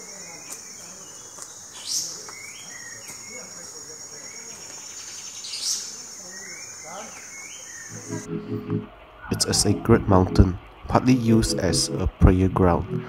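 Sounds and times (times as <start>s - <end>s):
insect chorus: 0.0s - 8.3s, 8.9s - 13.0s
bird calls: 0.0s - 13.0s.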